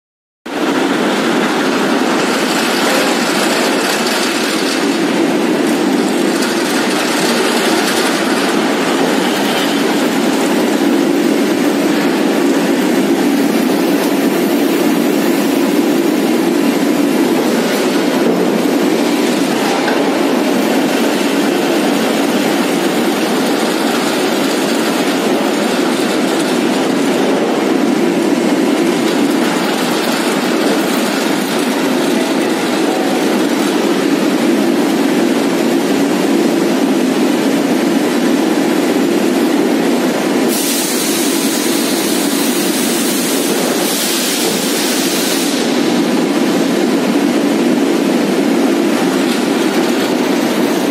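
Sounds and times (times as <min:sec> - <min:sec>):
rolling mill mechanical din: 0:00.5 - 0:50.9.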